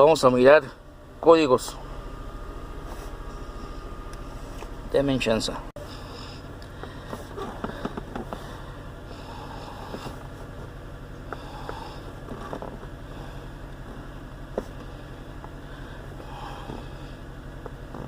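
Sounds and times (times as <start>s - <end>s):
car engine idling with misfire: 0.0s - 18.0s.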